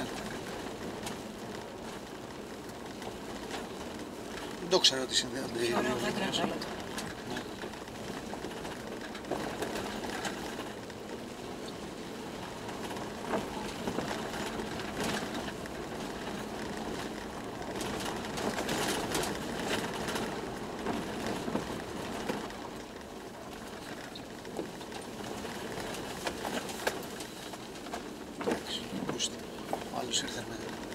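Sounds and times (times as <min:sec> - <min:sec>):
road and engine noise: 0:00.0 - 0:30.9.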